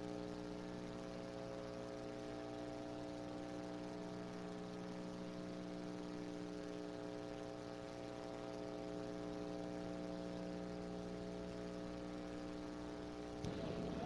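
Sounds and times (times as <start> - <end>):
electrical hum and buzz: 0.0 - 14.0.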